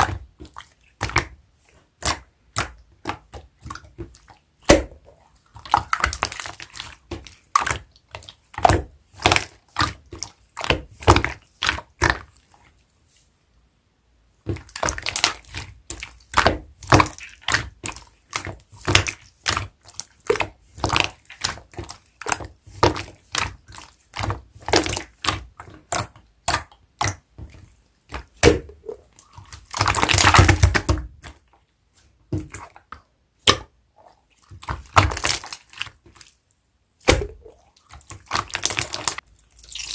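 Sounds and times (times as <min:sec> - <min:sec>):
wet slime squishes and pops: 0:00.0 - 0:12.3, 0:14.5 - 0:31.5, 0:32.3 - 0:36.4, 0:37.0 - 0:39.9
slime squelch: 0:00.0 - 0:13.6, 0:14.3 - 0:39.9.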